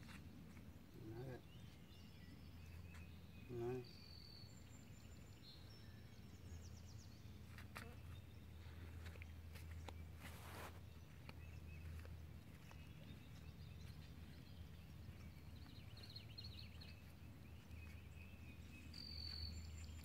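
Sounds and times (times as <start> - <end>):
faint bird chirps: 0.5 - 20.0.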